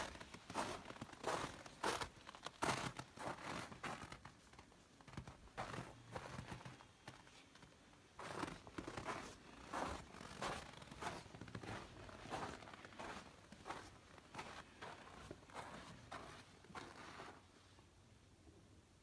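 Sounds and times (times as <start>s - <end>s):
footsteps crunching on snow: 0.0s - 4.5s, 5.1s - 17.4s.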